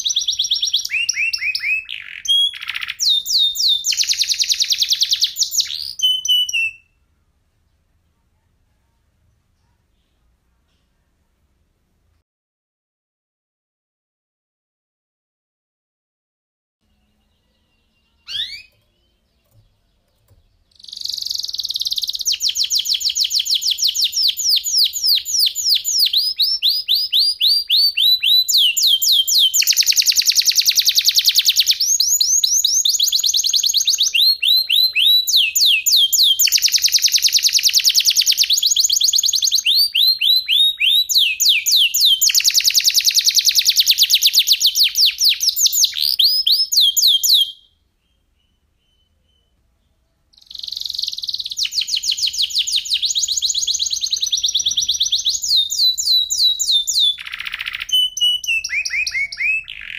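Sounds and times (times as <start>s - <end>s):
canary singing trills: 0.0s - 7.0s, 16.8s - 59.9s.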